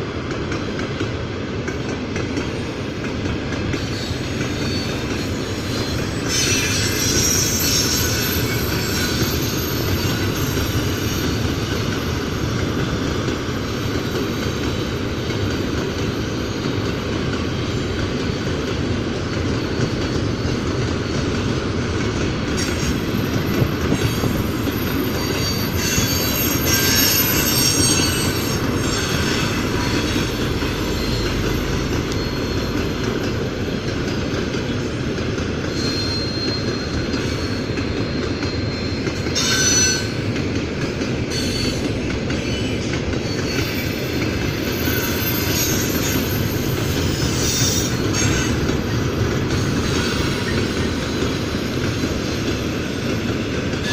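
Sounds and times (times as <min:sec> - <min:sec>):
train wagons rumbling by: 0:00.0 - 0:53.9
steel wheels squealing: 0:03.6 - 0:53.9.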